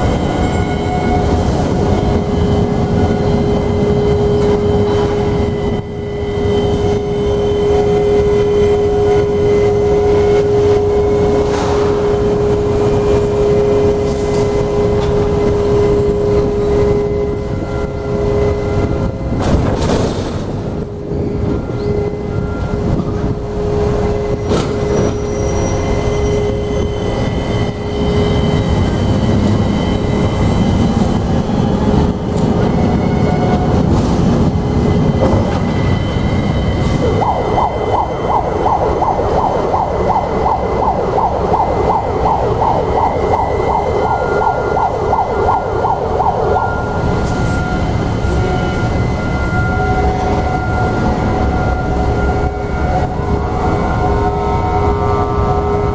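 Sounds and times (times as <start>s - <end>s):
warbling warning alarm: 0.0s - 19.6s, 20.7s - 55.9s
cargo machinery drone: 0.0s - 55.9s
crane hums: 0.0s - 55.9s.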